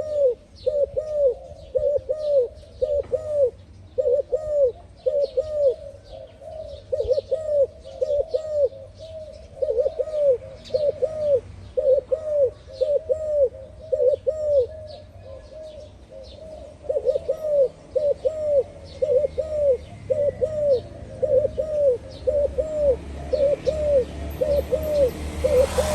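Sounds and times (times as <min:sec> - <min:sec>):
dove cooing: 0:00.0 - 0:25.9
small birds chirping: 0:00.0 - 0:25.9.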